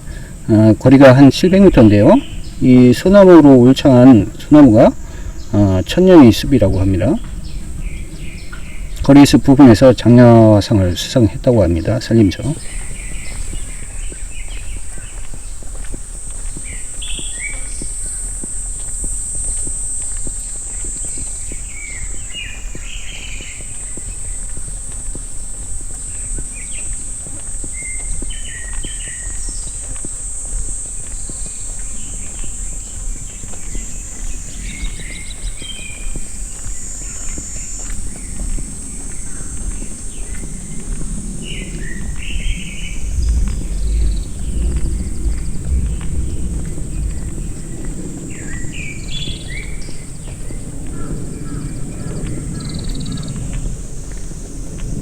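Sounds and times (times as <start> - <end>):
bird chirps: 0.0 - 15.8, 16.4 - 18.4, 20.2 - 24.7, 26.0 - 29.9, 31.0 - 53.6
cicadas droning: 0.0 - 55.0
footsteps on forest path: 0.0 - 55.0
high-pitched hiss: 0.0 - 55.0.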